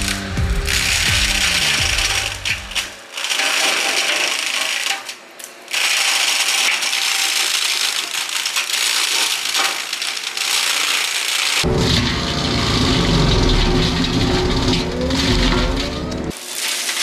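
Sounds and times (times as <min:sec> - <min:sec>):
flail mower shredding brush: 0:00.0 - 0:17.0.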